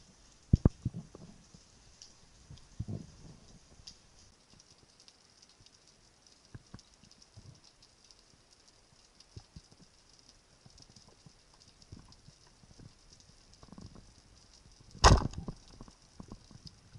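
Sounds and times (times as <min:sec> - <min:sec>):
fine underwater crackling: 0:00.0 - 0:16.9.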